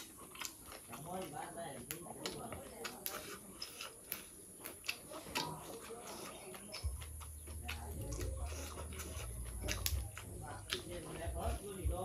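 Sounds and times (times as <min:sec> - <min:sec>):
chewing and eating by hand: 0:00.0 - 0:12.0.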